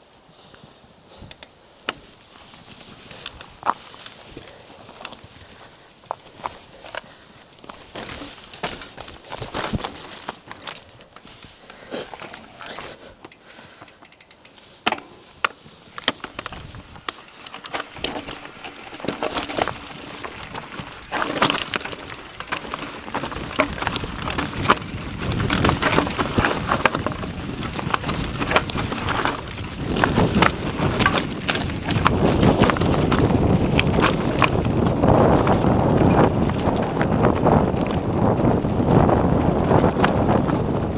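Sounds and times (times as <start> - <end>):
wind noise on microphone: 0.4 - 13.1, 15.3 - 40.9
bike tyres crunching over stones: 0.4 - 40.9
bike clicks and rattles: 0.5 - 40.9.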